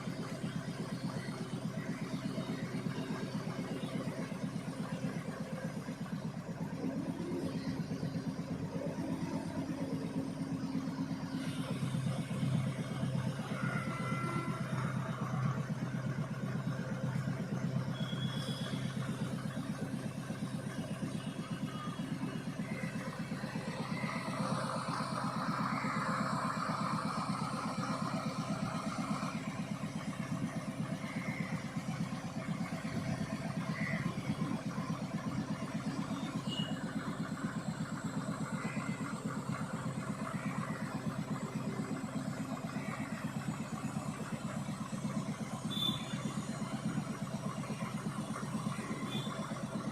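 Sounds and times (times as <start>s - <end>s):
higher-pitched whine: 0.0s - 38.0s, 45.6s - 49.9s
crane diesel engine running: 0.0s - 49.9s.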